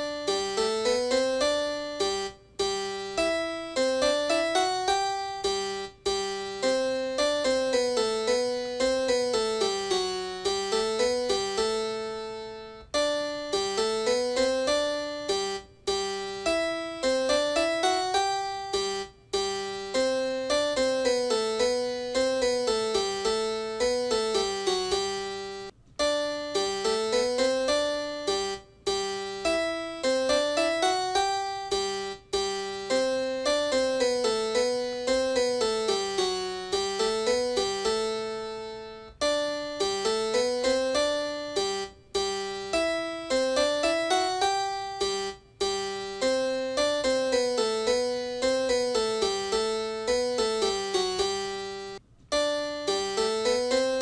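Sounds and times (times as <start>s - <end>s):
keyboard tune: 0.0s - 54.0s.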